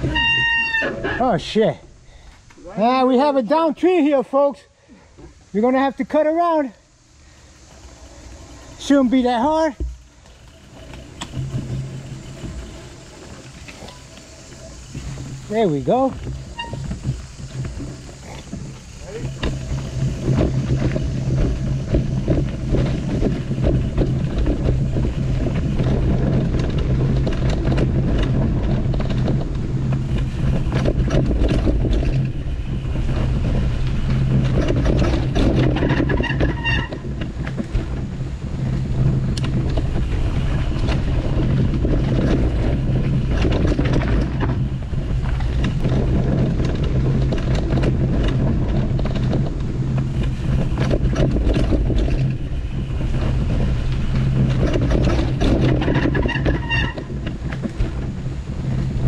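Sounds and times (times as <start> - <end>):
bike rattling and clicking: 0.0 - 4.5, 5.4 - 59.0
tyres rumbling on dirt: 2.8 - 59.0
wind on microphone: 10.7 - 59.0.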